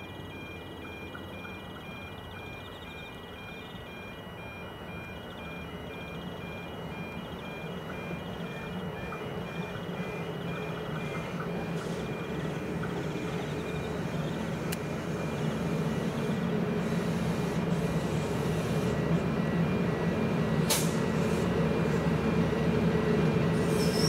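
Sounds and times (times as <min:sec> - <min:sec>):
diesel train engine hum: 0:00.0 - 0:24.0.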